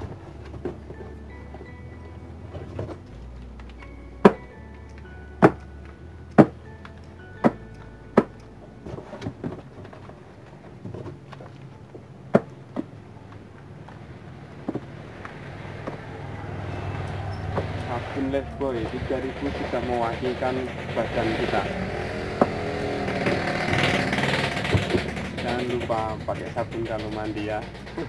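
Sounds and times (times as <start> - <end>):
background music with held notes: 0.0 - 28.0.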